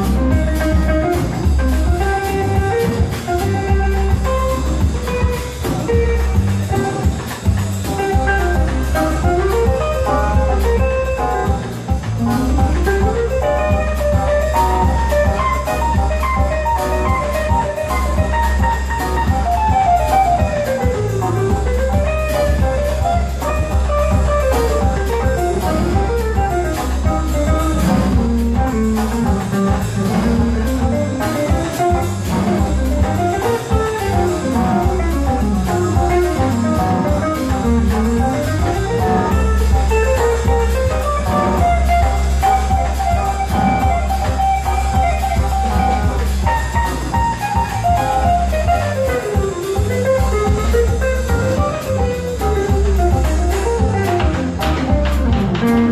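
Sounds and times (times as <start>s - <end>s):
band playing jazz-fusion: 0.0s - 55.9s
fast plucked-string melody: 0.0s - 55.9s.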